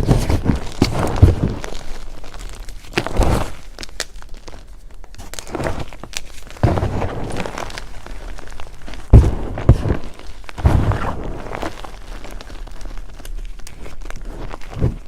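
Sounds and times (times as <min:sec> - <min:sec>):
chalk blocks crunching: 0:00.0 - 0:15.0.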